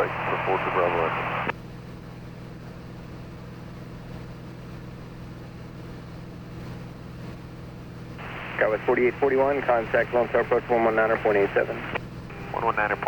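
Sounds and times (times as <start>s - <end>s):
aircraft engine and propeller drone: 0.0s - 13.0s.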